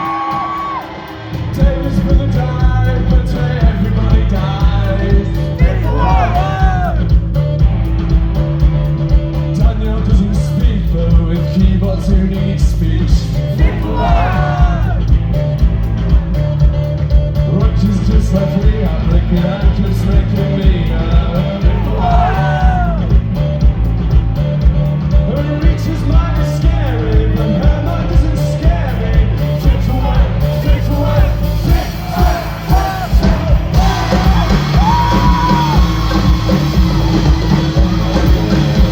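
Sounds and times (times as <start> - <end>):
bass guitar: 0.0 - 38.9
drums: 0.0 - 38.9
live rock band playing: 0.0 - 38.9.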